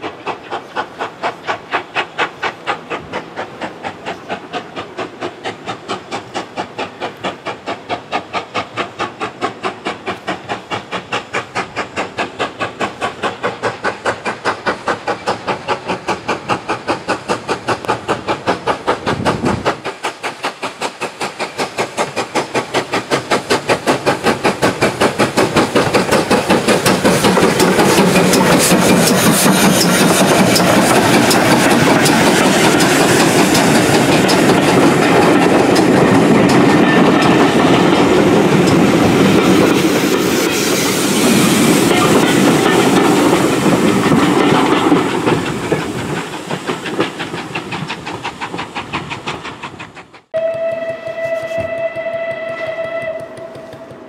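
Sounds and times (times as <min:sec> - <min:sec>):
steam hiss: 0:00.0 - 0:54.0
steam locomotive exhaust beats: 0:00.0 - 0:54.0.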